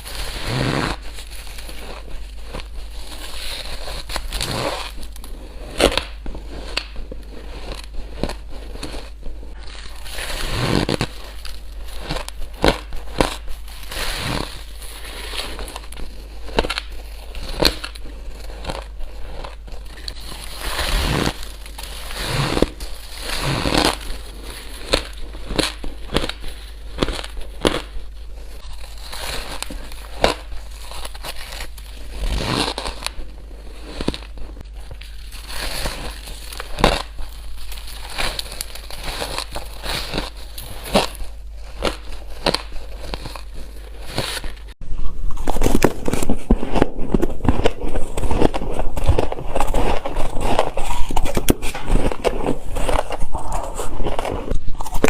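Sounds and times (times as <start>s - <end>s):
shaved ice being chewed: 0.0s - 44.6s, 45.3s - 55.0s.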